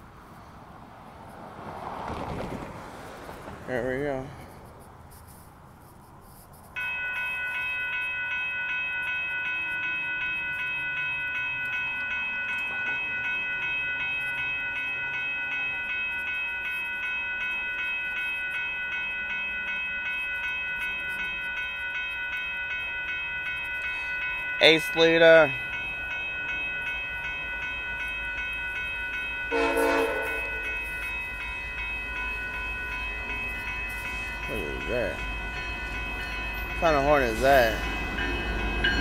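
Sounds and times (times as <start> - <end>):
railroad crossing bell ringing: 3.3 - 39.0.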